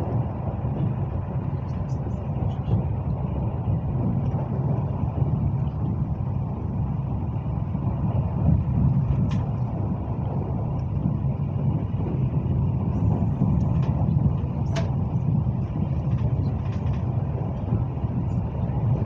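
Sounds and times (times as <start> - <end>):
train low rumble: 0.0 - 19.0.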